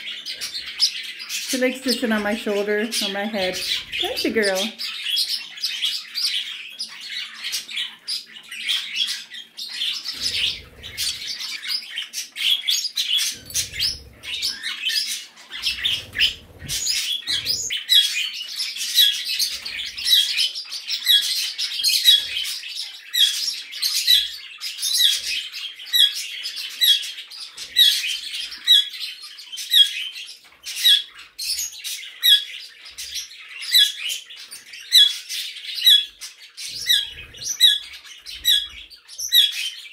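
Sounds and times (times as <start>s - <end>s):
pet birds chirping and chattering: 0.0s - 39.9s.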